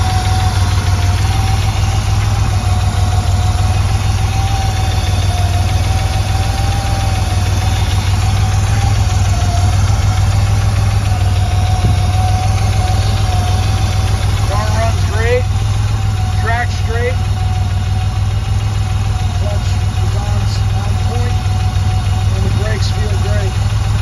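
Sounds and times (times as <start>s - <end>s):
thin steady whine: 0.0s - 23.6s
car engine idling: 0.0s - 24.0s.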